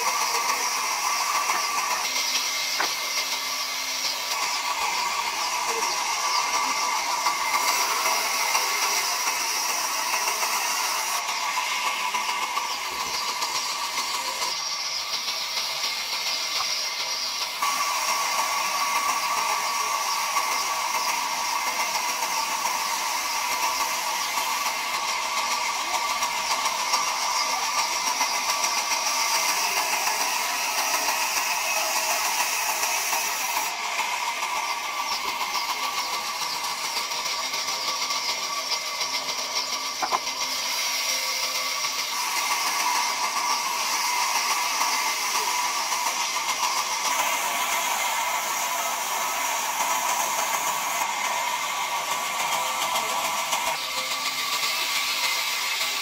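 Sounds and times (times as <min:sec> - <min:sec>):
band saw cutting timber: 0:00.0 - 0:56.0.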